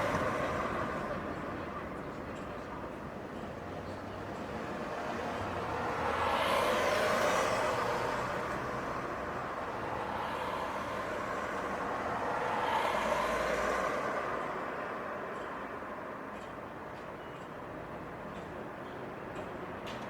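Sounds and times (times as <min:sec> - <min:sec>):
vehicles passing by: 0:00.0 - 0:16.3.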